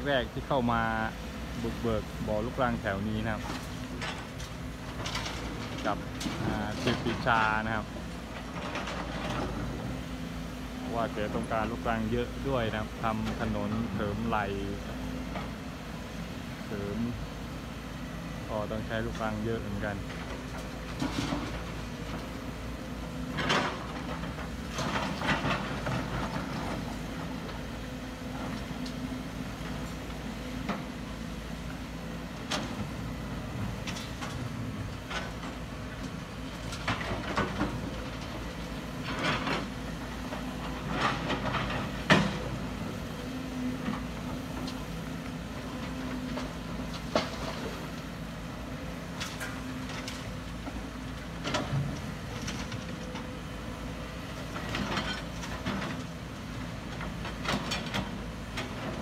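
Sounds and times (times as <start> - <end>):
excavator diesel engines running: 0.0 - 59.0
excavator buckets clanking and scraping: 0.2 - 17.4, 18.6 - 59.0.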